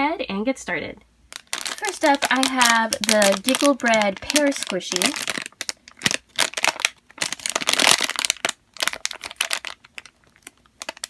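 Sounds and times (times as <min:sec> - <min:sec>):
plastic packaging crinkling: 0:01.3 - 0:11.0.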